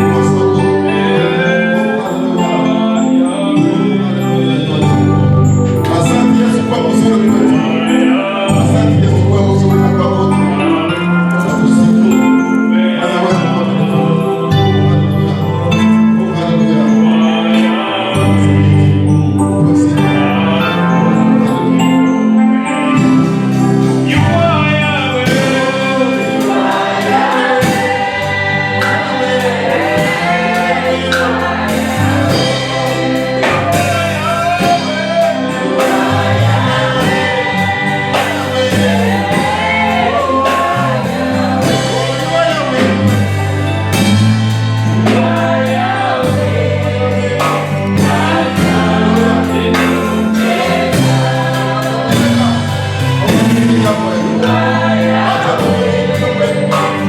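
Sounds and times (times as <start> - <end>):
band with steady bass and beat: 0.0 - 57.0
choir singing: 0.0 - 57.0.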